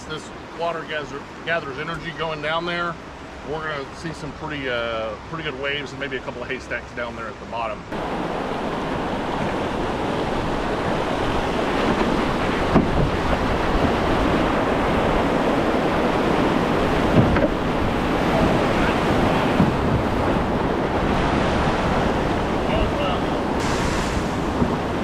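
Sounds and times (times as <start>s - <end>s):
river rapid rushing: 0.0s - 7.1s, 7.8s - 25.0s.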